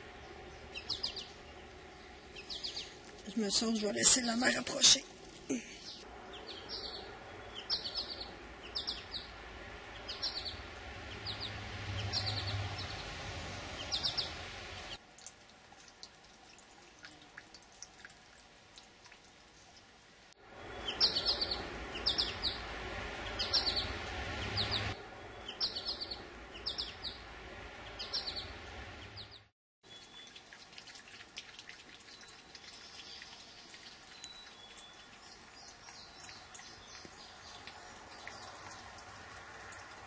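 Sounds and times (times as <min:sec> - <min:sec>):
songbird chirping: 0:00.0 - 0:16.0, 0:20.5 - 0:40.0.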